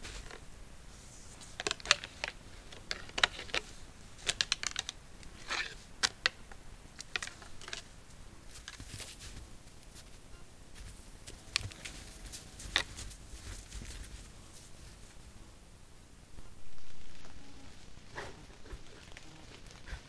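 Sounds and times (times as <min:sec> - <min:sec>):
deer feeding crunching snow: 0:00.0 - 0:15.5, 0:17.0 - 0:20.0.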